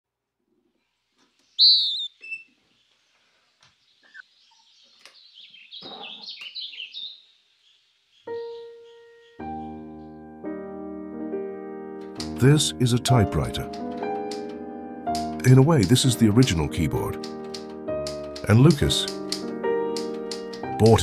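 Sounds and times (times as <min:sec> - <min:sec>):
birds chirping: 0:01.0 - 0:10.4, 0:12.0 - 0:21.0.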